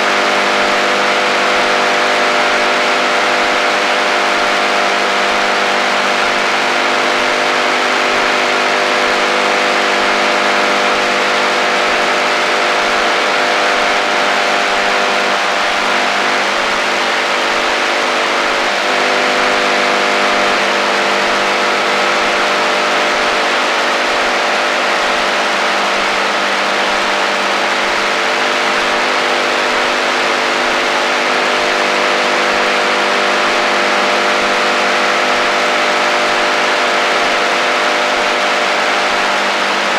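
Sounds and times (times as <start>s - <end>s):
buzzing drone of tones: 0.0s - 39.9s
radio static hiss: 4.4s - 39.9s.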